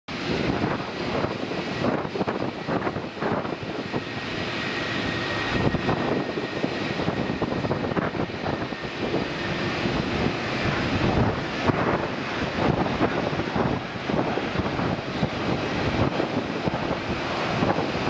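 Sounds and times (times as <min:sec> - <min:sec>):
faint jet whine: 0:00.1 - 0:18.0
jet engine rumble: 0:00.1 - 0:18.0.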